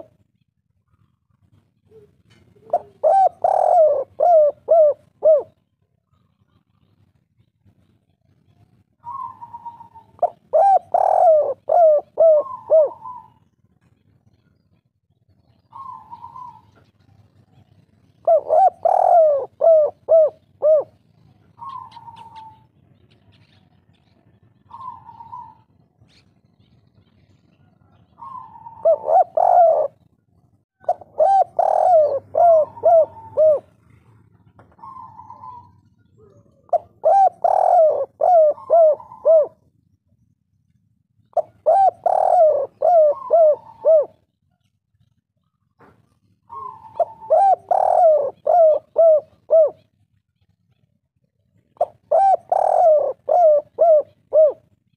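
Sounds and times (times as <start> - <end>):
dove cooing: 0.0 - 0.3, 0.9 - 14.5, 15.5 - 30.2, 30.8 - 39.7, 41.3 - 50.9, 51.6 - 54.9.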